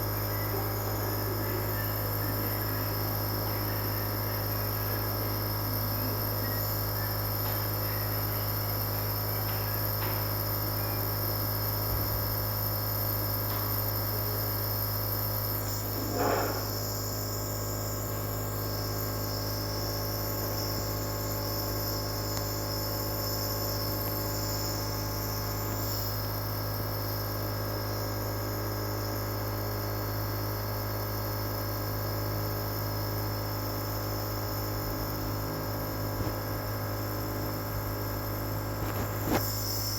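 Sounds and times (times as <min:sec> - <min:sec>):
nebulizer buzzing hum: 0:00.0 - 0:39.9.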